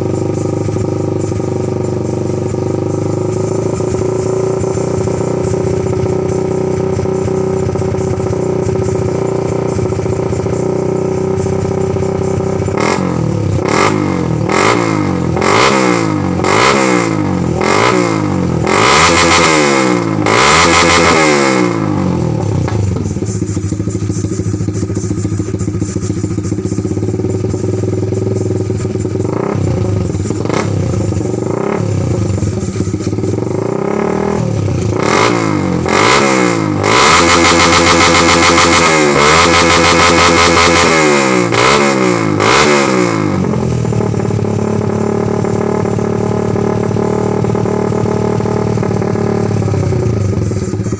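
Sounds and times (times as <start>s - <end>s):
motorcycle engine idling: 0.0s - 50.9s
motorcycle engine revving: 0.0s - 50.9s.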